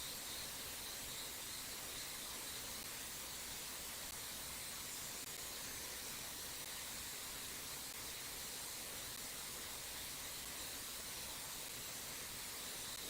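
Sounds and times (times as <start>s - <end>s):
mountain stream hissing: 0.0s - 13.0s.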